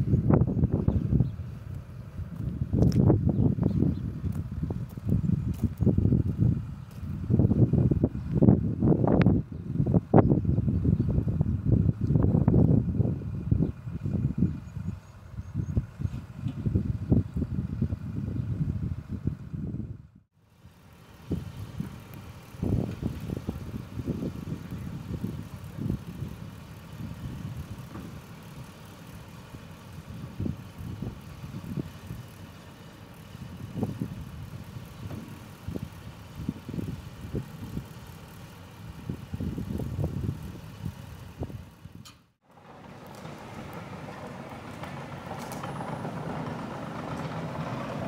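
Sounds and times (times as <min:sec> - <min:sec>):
wind buffeting microphone: 0:00.0 - 0:20.2, 0:21.2 - 0:28.3, 0:30.0 - 0:32.4, 0:33.2 - 0:38.1, 0:38.9 - 0:42.1, 0:42.9 - 0:48.0
excavator diesel engine running: 0:00.0 - 0:48.0
faint engine running: 0:00.0 - 0:48.0.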